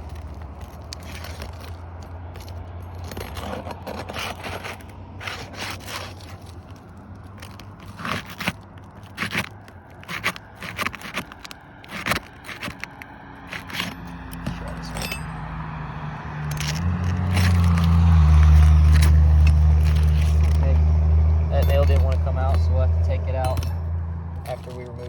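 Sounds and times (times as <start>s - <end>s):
shingles scraping and crackling: 0.0s - 25.0s.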